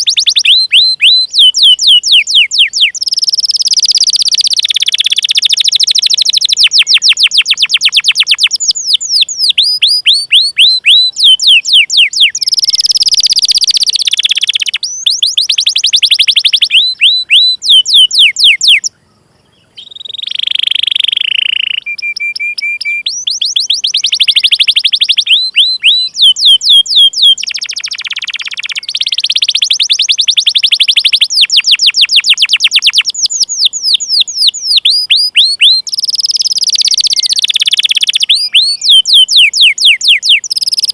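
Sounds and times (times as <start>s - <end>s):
canary singing chirps and trills: 0.0s - 40.9s.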